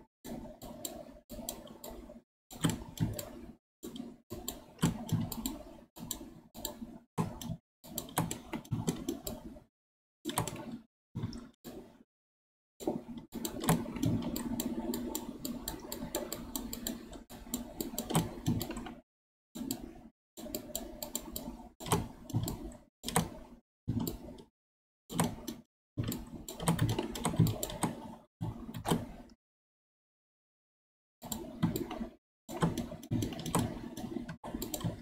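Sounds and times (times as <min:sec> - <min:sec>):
keyboard and mouse clicks: 0:00.3 - 0:09.6, 0:10.3 - 0:12.0, 0:12.8 - 0:19.0, 0:19.6 - 0:24.5, 0:25.1 - 0:29.4, 0:31.2 - 0:35.0.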